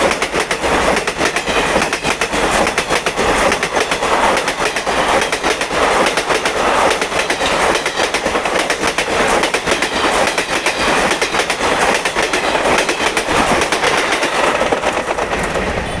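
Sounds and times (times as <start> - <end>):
train carriages rushing rattle: 0.0 - 16.0.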